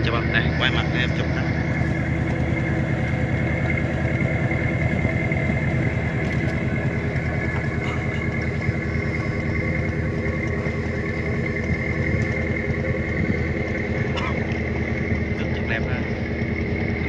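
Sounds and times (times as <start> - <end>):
boat engine throbbing: 0.0 - 17.0.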